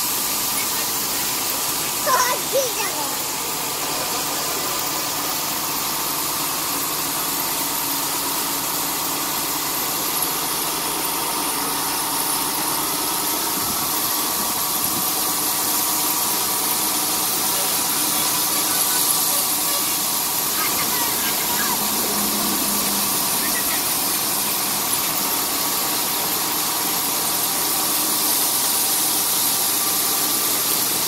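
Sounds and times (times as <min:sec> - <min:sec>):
diesel truck engine running: 0:00.0 - 0:30.0
hydraulic hoist raising tipper: 0:00.0 - 0:31.0.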